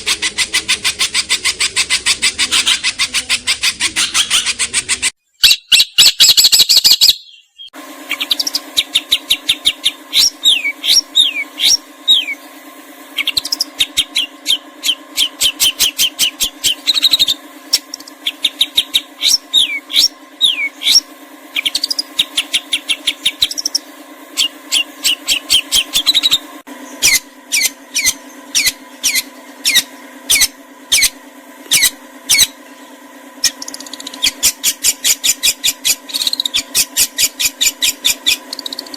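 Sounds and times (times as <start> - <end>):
steady low hum: 0.0 - 5.2, 7.6 - 38.9
songbird whistling: 0.0 - 38.9.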